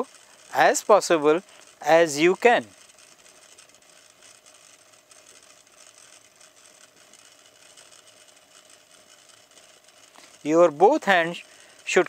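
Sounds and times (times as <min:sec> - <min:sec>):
sewing machine humming: 0:00.0 - 0:12.0.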